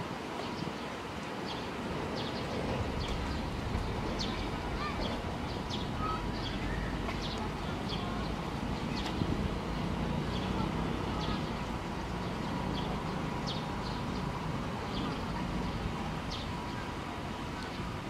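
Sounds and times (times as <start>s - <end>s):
small birds chirping: 1.4s - 17.0s.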